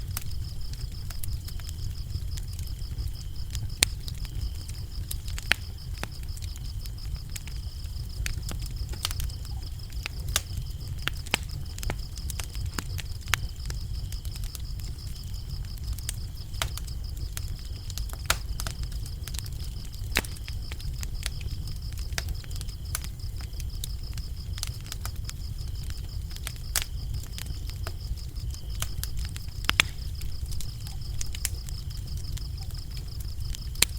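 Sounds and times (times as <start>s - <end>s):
crickets trilling: 0.0s - 33.9s
wood fire crackling and popping: 0.0s - 33.9s.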